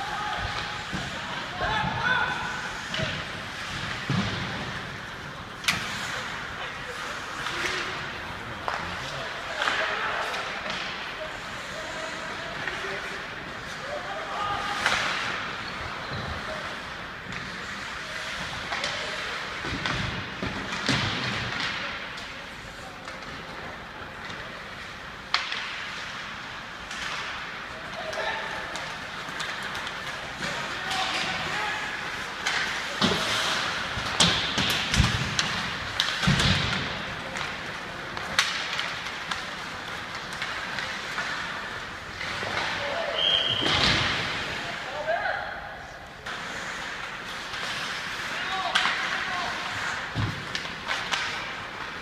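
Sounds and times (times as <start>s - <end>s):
hockey sticks and puck clacking: 0.0s - 52.0s.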